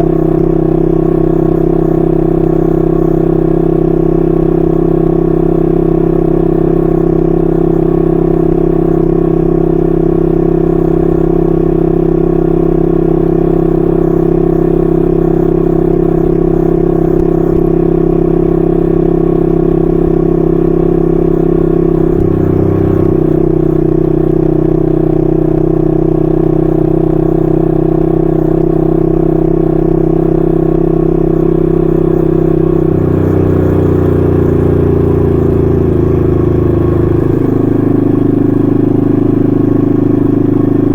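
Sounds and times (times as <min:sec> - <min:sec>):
motorcycle exhaust at cruising speed: 0:00.0 - 0:40.9.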